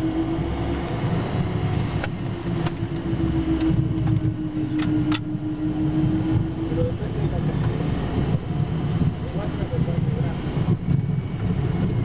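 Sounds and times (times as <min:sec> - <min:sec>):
jet engines humming: 0:00.0 - 0:12.0
wheels rumbling on runway: 0:00.0 - 0:12.0.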